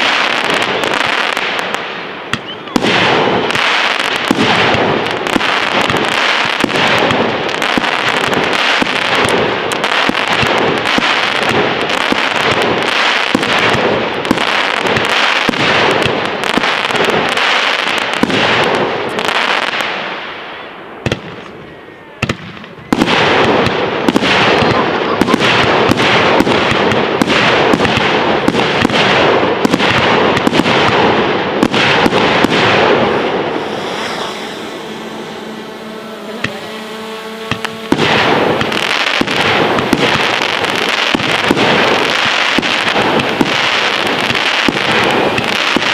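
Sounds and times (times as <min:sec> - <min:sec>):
fireworks cracking and banging: 0:00.0 - 0:45.9.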